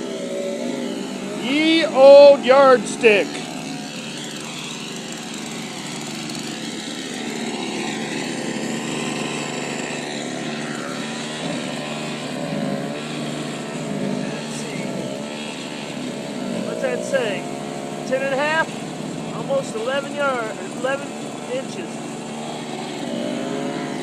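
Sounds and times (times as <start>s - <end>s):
snowblower engine running: 0.0s - 24.0s.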